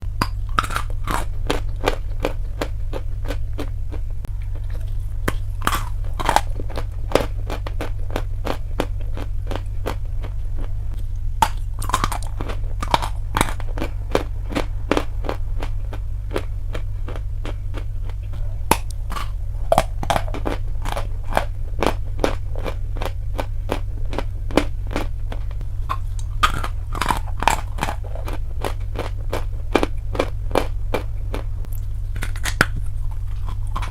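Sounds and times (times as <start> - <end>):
low hum: 0.0 - 33.9
chewing crunchy chalk: 0.2 - 33.9.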